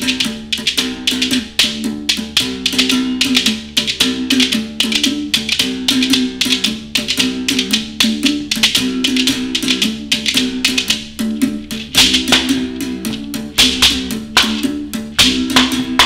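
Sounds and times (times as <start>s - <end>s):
calabash shaker rattling: 0.0s - 16.0s
musical bow struck rhythmically: 0.0s - 16.0s.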